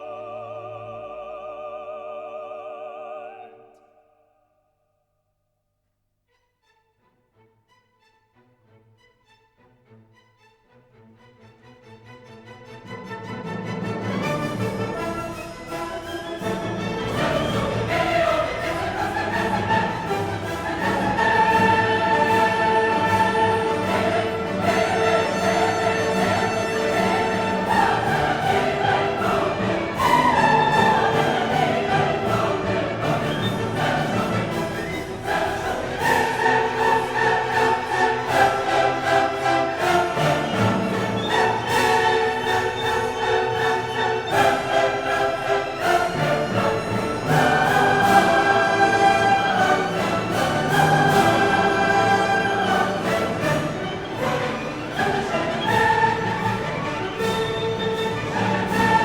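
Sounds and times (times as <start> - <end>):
orchestral music with choir: 0.0 - 4.4, 6.3 - 59.0.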